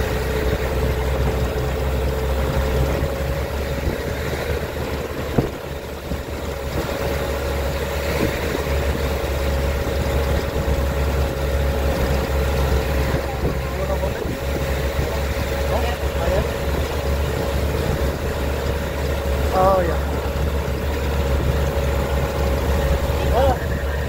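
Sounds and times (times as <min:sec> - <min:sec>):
jeep engine running: 0:00.0 - 0:24.0.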